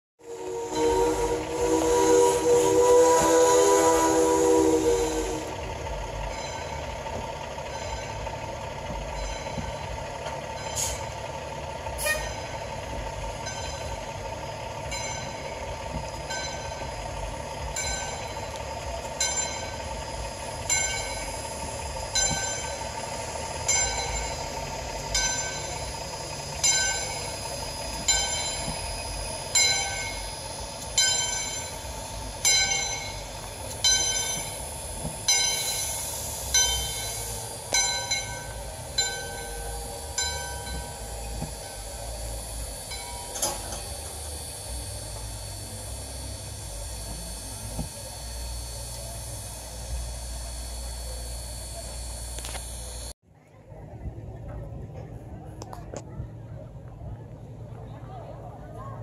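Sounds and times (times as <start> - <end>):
locomotive bell ringing: 0.2 - 53.2.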